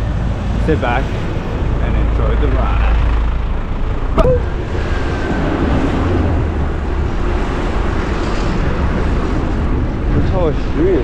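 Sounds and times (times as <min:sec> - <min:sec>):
street traffic: 0:00.0 - 0:11.0
wind buffeting microphone: 0:00.0 - 0:11.0.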